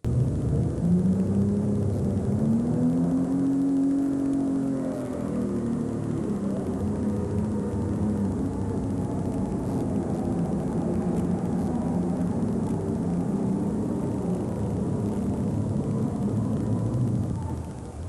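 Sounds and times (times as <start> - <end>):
tractor engine droning under load: 0.0 - 18.0.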